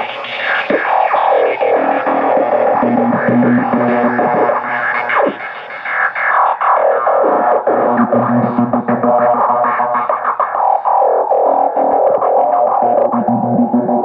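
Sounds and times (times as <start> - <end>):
electronic music over sound system: 0.0 - 14.0.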